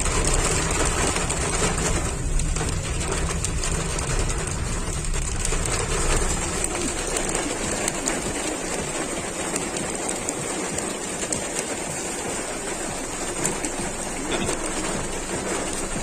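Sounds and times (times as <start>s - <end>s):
heavy rain hissing: 0.0s - 16.0s
raindrops ticking: 0.0s - 16.0s.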